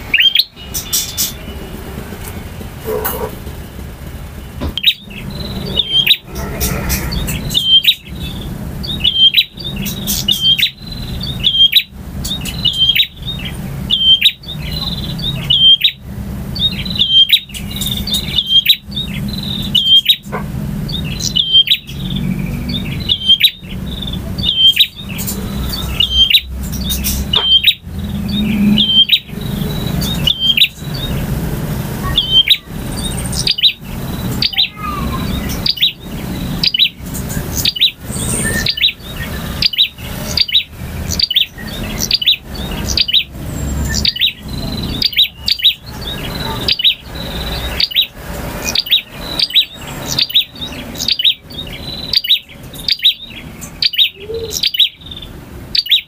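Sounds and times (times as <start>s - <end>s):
bird sharp chirps: 0.0s - 1.8s, 4.4s - 31.4s, 32.0s - 56.0s.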